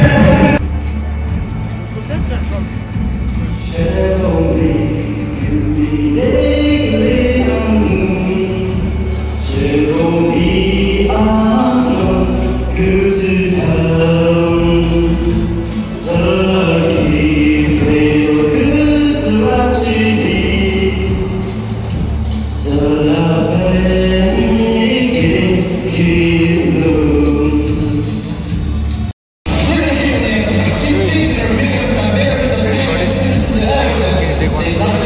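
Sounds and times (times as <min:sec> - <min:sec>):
instrumental backing music: 0:00.0 - 0:35.0
man singing into a microphone: 0:03.6 - 0:28.3, 0:29.5 - 0:35.0.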